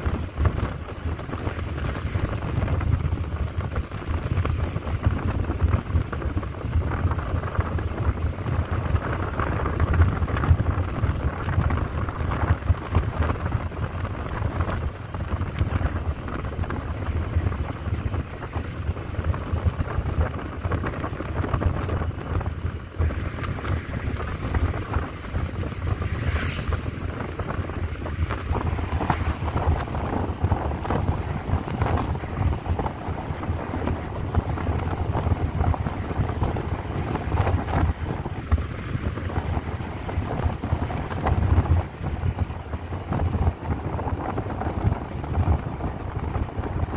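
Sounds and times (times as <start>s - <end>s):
road noise: 0.0s - 46.9s
wind buffeting microphone: 0.0s - 46.9s.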